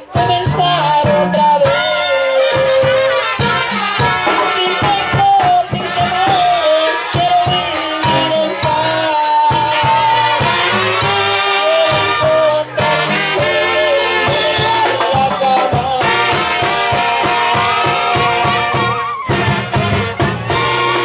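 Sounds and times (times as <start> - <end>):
steady drum beat: 0.0 - 21.0
trumpets and clarinets melody: 0.0 - 21.0
tuba bass line: 0.0 - 21.0.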